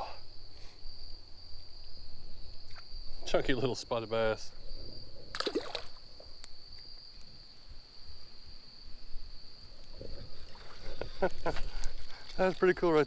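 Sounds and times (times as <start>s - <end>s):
faint outdoor background noise: 0.0s - 13.0s
insect chorus droning: 0.0s - 13.0s.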